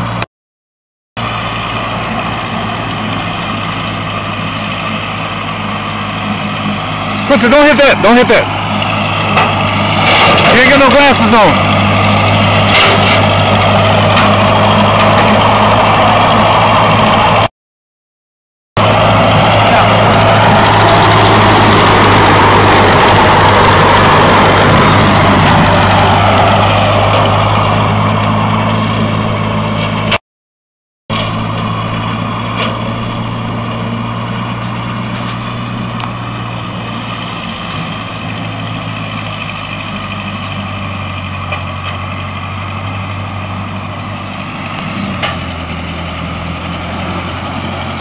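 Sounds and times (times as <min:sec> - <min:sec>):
tractor engine running: 0:00.0 - 0:00.2, 0:01.2 - 0:17.5, 0:18.8 - 0:30.2, 0:31.1 - 0:48.0.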